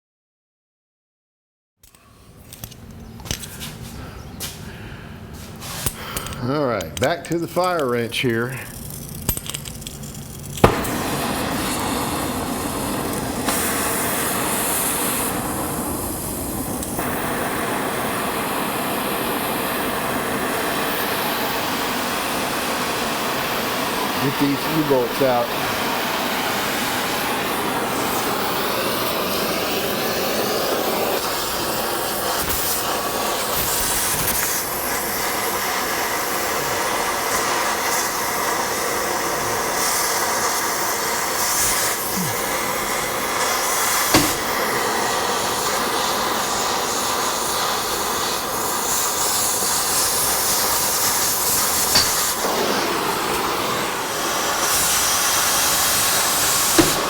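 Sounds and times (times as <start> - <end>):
cutting torch hissing: 7.0 - 57.0
torch sharp pops: 8.6 - 57.0.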